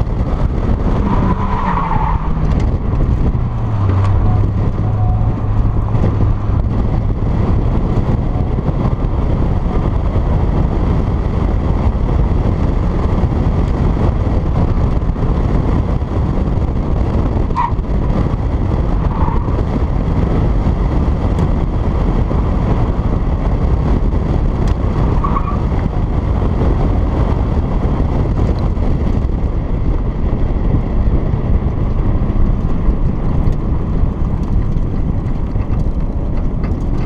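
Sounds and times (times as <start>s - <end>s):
car engine running hard: 0.0s - 37.0s
wind noise on microphone: 0.0s - 37.0s.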